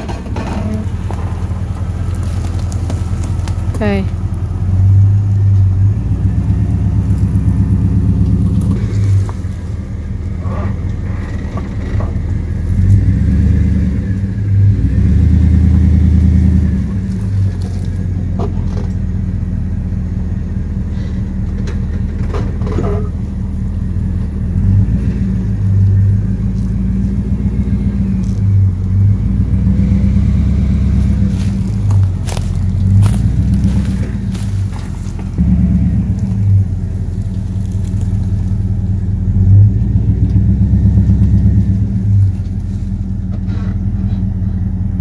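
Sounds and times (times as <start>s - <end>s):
truck engine running under load: 0.0s - 45.0s.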